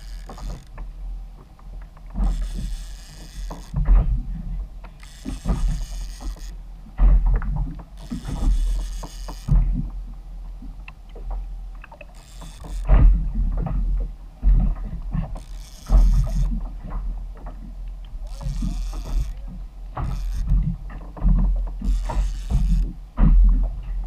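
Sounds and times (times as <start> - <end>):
small knocks: 0.0 - 4.2, 4.8 - 10.0, 11.1 - 24.0
water slapping against kayak hull: 0.0 - 10.0, 11.1 - 24.0.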